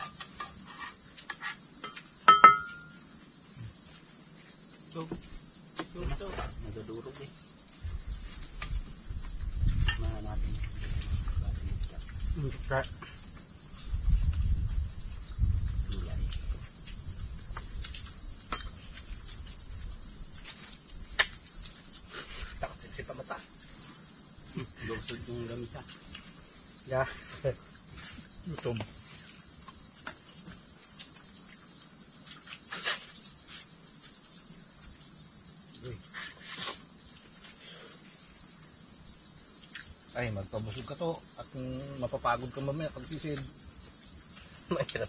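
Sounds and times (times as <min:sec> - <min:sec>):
insect chorus trilling: 0:00.0 - 0:45.0.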